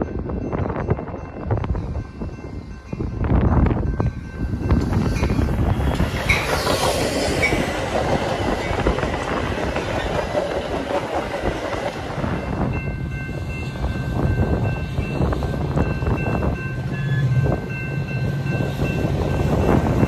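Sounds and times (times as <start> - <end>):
train wheel rumble and clack: 0.0 - 20.0.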